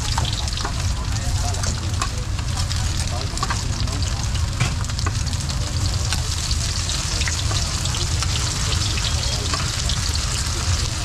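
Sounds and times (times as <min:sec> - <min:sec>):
cakes sizzling in oil: 0:00.0 - 0:11.0.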